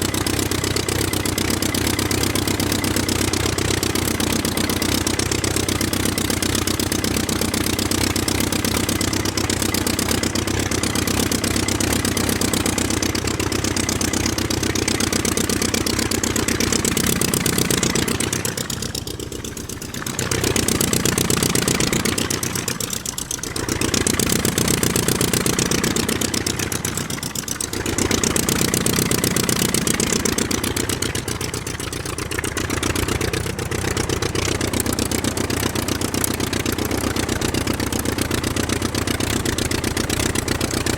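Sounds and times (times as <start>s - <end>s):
aircraft engine running: 0.0s - 40.9s.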